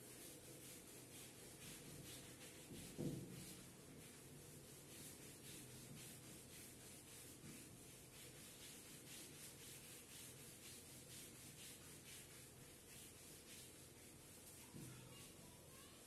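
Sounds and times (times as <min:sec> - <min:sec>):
duster rubbing whiteboard: 0:00.0 - 0:15.5.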